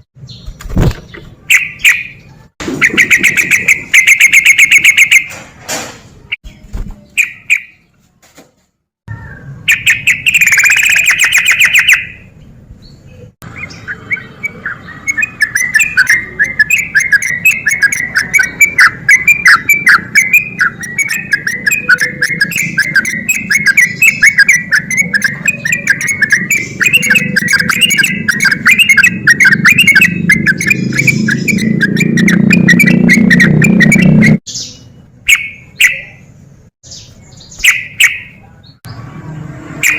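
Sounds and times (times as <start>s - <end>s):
bulbul singing: 0.0s - 5.4s, 6.4s - 7.9s, 9.1s - 39.0s.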